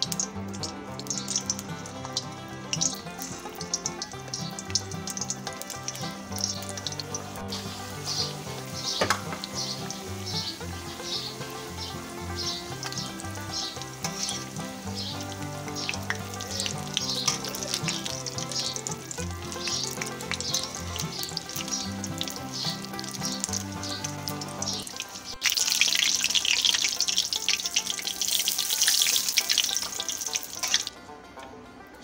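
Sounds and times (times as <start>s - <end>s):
food deep-frying in hot oil: 0.0s - 30.9s
soft background music: 0.0s - 32.0s.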